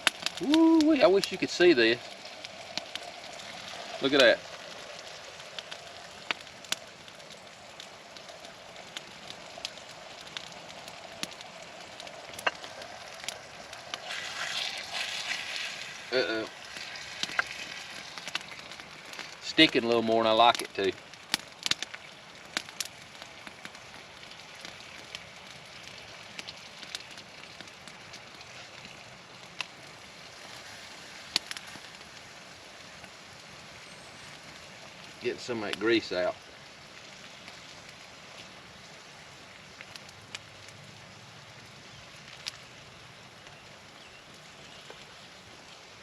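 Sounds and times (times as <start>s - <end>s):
campfire crackling: 0.0s - 46.0s
grease popping: 0.0s - 46.0s
steak sizzling in a skillet: 0.0s - 46.0s.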